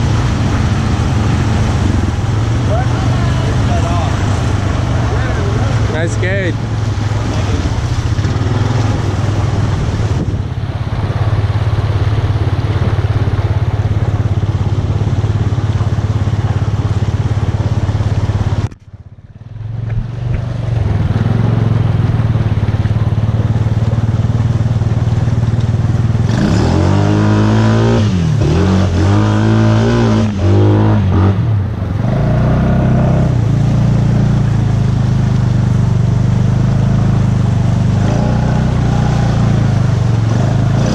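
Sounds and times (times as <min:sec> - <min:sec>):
atv engine running and revving: 0:00.0 - 0:40.9.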